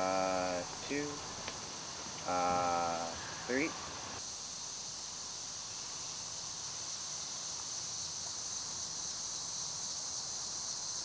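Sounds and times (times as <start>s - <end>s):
high-pitched insect drone: 0.0s - 11.0s
soft hiss: 0.0s - 11.0s.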